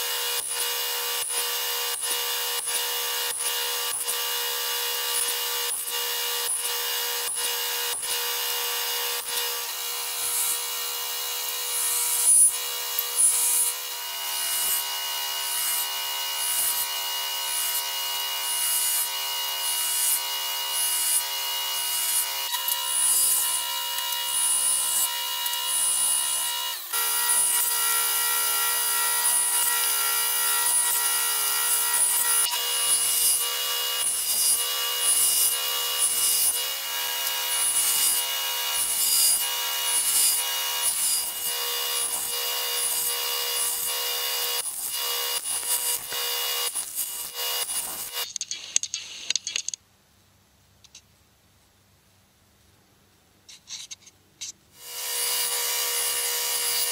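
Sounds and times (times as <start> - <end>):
table saw running: 0.0 - 48.2, 54.8 - 56.9
saw cutting rasp: 0.0 - 48.3, 54.8 - 56.9.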